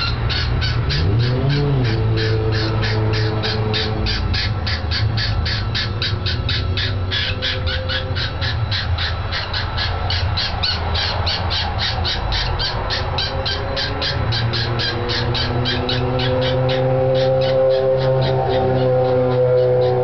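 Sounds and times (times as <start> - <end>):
cockatiel screeching: 0.0 - 20.0.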